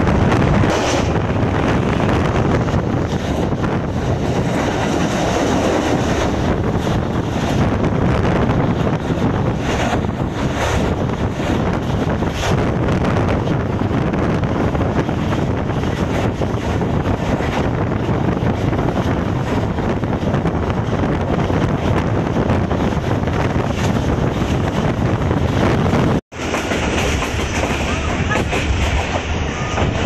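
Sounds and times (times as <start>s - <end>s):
train running rumble: 0.0s - 30.0s
wind rushing over microphone: 0.0s - 30.0s.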